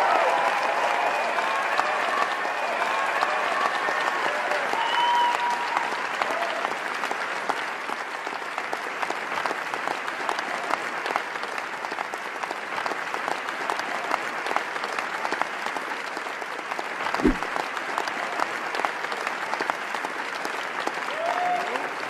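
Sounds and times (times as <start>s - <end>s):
crowd applauding: 0.0s - 22.0s.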